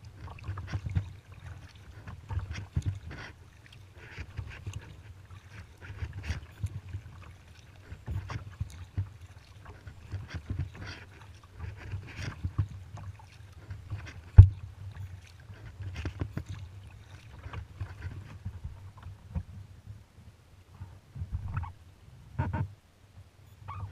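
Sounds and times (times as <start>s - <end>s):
paddle splashing in water: 0.0s - 19.5s.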